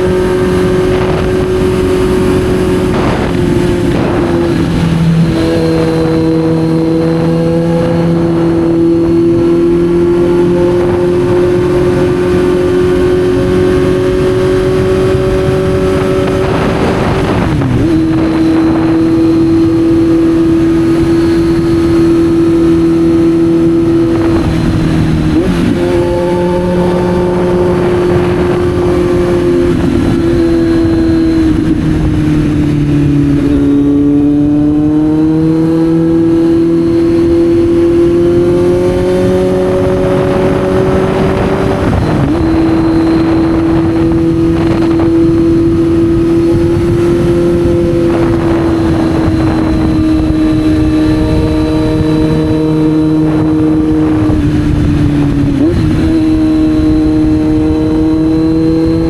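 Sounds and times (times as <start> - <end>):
motorcycle engine under load: 0.0 - 59.0
wind rushing: 0.0 - 59.0.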